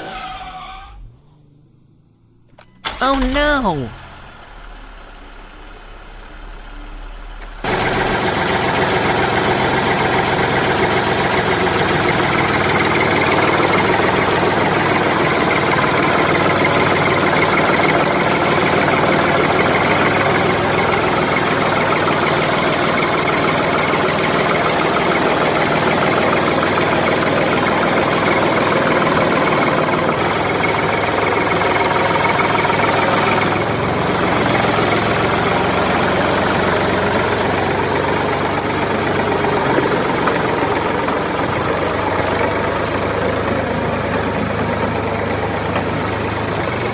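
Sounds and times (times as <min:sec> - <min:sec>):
small tractor engine running: 0:01.0 - 0:03.4, 0:04.0 - 0:46.9.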